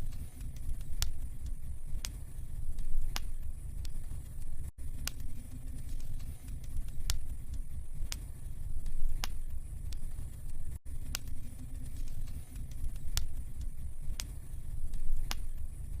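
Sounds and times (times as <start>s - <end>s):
low rumble of fire: 0.0s - 16.0s
wood fire crackling and popping: 0.0s - 16.0s.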